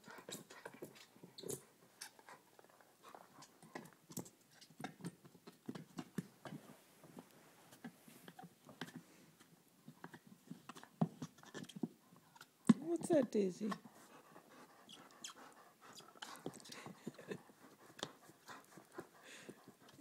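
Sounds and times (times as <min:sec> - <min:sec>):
dog chewing toy: 0:00.0 - 0:20.0.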